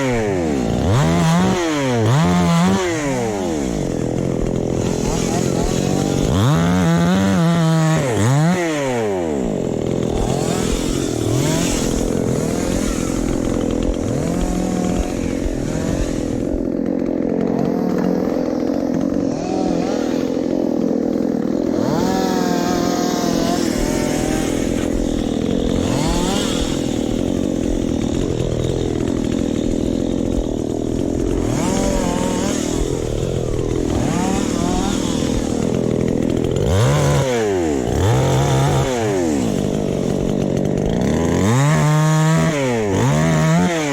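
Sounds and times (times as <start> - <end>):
chainsaw running: 0.0 - 43.9.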